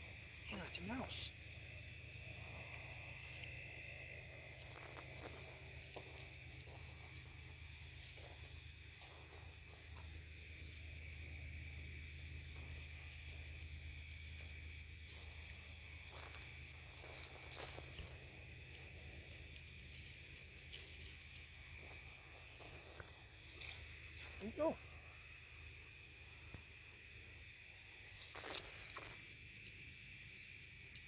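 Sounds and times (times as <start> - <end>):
night insects chirping: 0.0 - 31.0
faint rustles in leaves and gravel: 0.1 - 26.2, 27.7 - 29.9.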